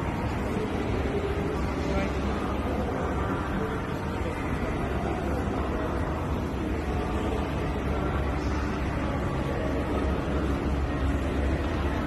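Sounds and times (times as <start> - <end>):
low rumble and hiss: 0.0 - 12.0.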